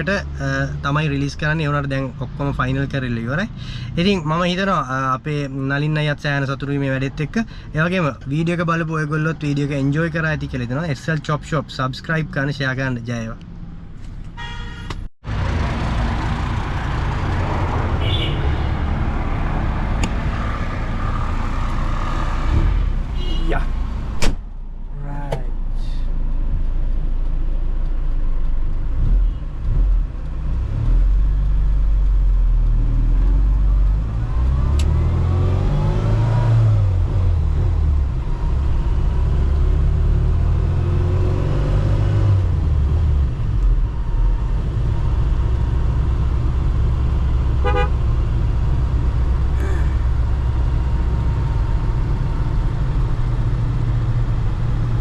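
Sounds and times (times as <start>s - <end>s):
car engine rumbling and revving: 0.0s - 55.0s.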